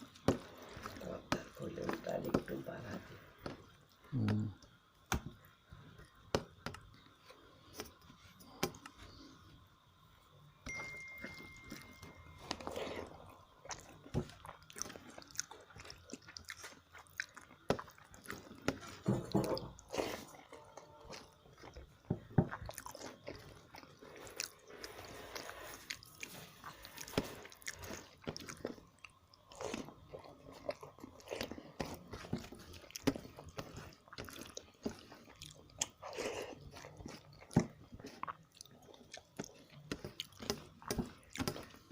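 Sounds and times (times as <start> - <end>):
person chewing food: 0.0 - 10.0, 10.7 - 41.9.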